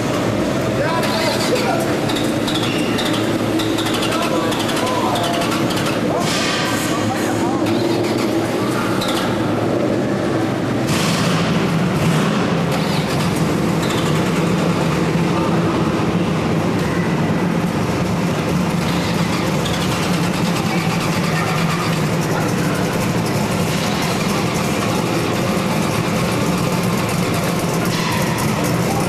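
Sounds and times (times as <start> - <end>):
car engine low drone: 0.0 - 29.0
people talking: 0.6 - 11.0, 14.8 - 29.0.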